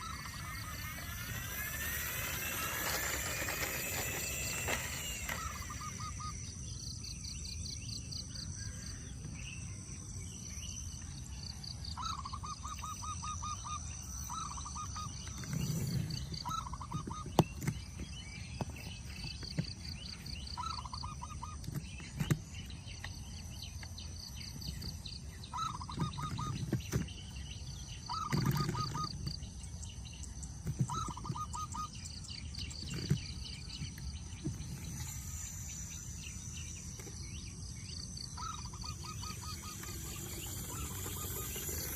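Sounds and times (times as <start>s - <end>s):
birds calling in rapid trills: 0.0s - 41.9s
high insect drone: 0.0s - 41.9s.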